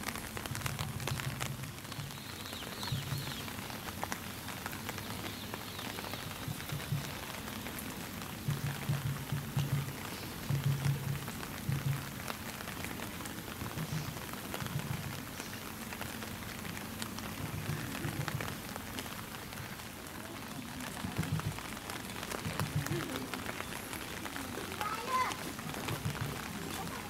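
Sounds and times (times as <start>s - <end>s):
light rain falling: 0.0s - 27.0s.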